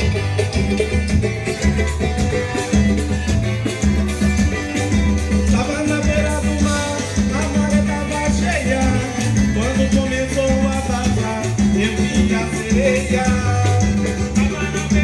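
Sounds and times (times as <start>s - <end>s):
upbeat music with plucked strings: 0.0s - 15.0s.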